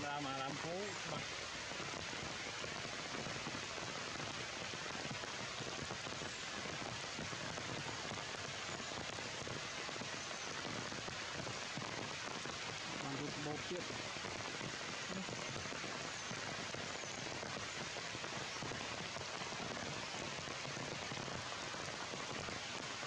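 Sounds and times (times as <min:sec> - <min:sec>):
heavy rain on leaves: 0:00.0 - 0:23.0.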